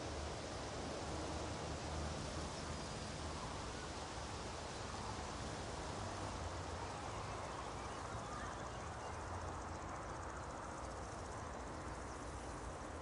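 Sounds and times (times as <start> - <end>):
breeze through grass: 0.0 - 13.0.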